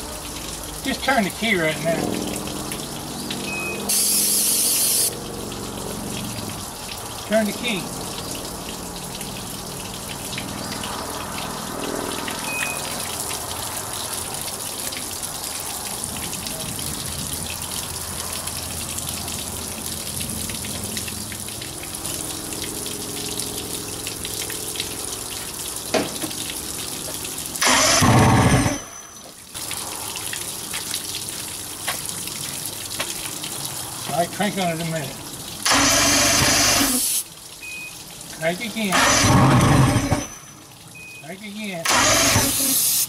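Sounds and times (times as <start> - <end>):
hose water running: 0.0 - 43.0.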